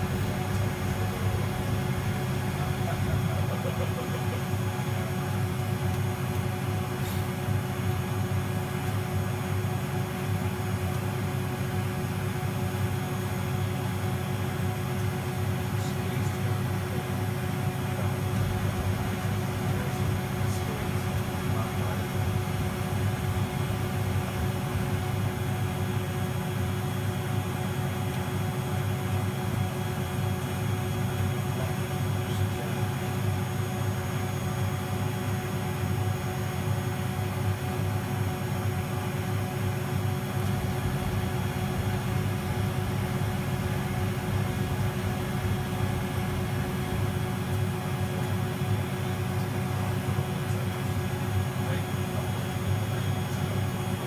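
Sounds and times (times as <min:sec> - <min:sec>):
faint constant whine: 0:00.0 - 0:54.0
washing machine hum: 0:00.0 - 0:54.0.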